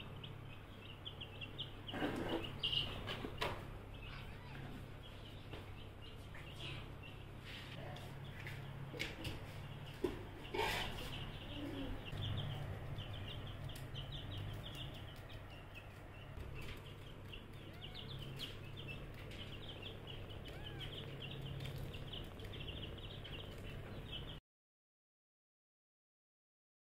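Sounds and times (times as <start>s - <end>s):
low steady hum: 0.0s - 24.4s
small birds chirping: 0.0s - 24.4s.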